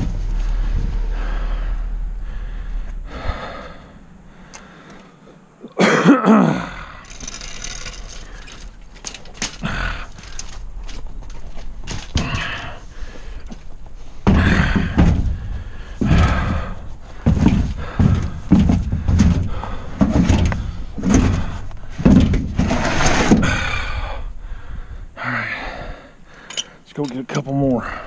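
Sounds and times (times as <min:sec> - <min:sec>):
heavy planter thumping and scraping: 0:00.0 - 0:05.0, 0:06.8 - 0:24.6.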